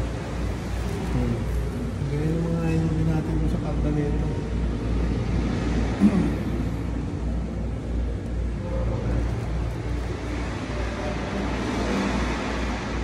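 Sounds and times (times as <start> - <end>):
indoor background rumble and hiss: 0.0 - 13.0.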